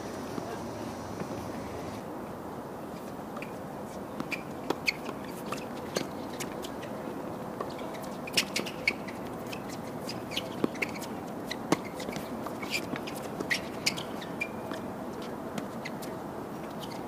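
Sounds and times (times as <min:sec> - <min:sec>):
outdoor ambience: 0:00.0 - 0:17.0.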